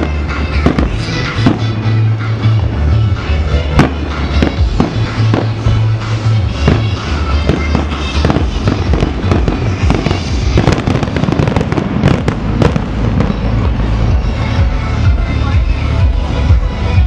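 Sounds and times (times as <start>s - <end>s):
fireworks bursting: 0.0s - 15.5s
loud music with bass: 0.0s - 17.0s.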